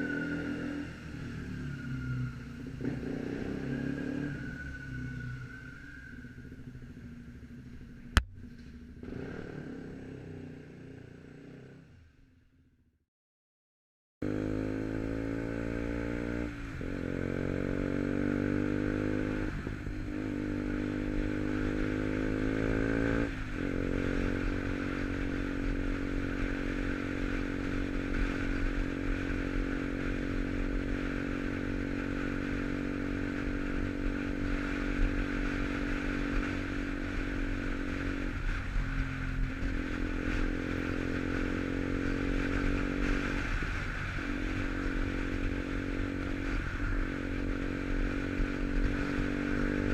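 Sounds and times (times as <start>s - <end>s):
motorcycle engine accelerating: 0.0s - 12.3s, 14.2s - 49.9s.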